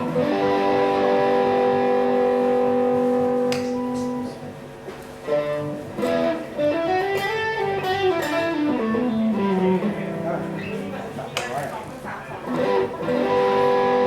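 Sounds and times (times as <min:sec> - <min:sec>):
electric guitar chord ringing: 0:00.0 - 0:04.4, 0:05.3 - 0:10.8, 0:12.5 - 0:14.0
electric guitar lead notes: 0:00.0 - 0:10.9, 0:12.5 - 0:14.0.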